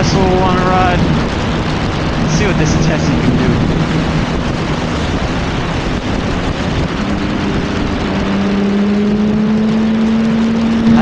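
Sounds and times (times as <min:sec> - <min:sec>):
motorcycle engine: 0:00.0 - 0:11.0
wind noise on microphone: 0:00.0 - 0:11.0.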